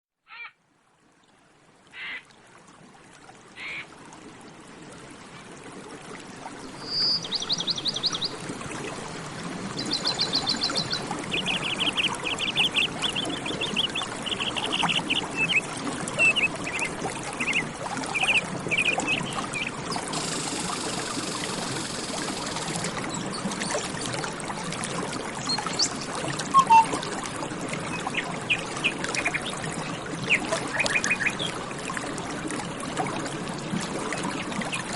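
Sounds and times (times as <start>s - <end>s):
running water: 0.8s - 34.9s.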